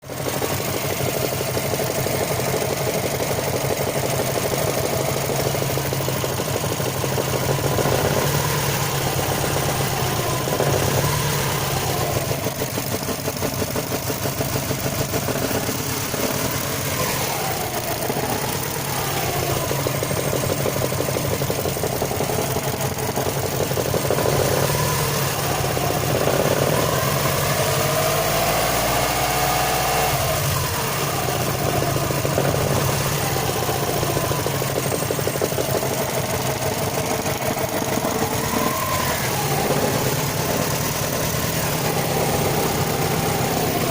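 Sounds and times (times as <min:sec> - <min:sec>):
rapid engine knock: 0:00.0 - 0:29.4, 0:30.1 - 0:43.9
car engine idling: 0:00.0 - 0:43.9.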